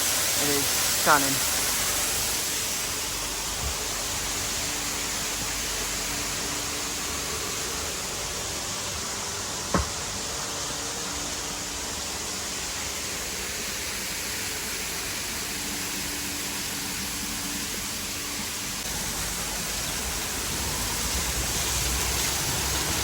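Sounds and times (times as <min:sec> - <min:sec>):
waterfall rushing: 0:00.0 - 0:08.4, 0:11.2 - 0:23.0.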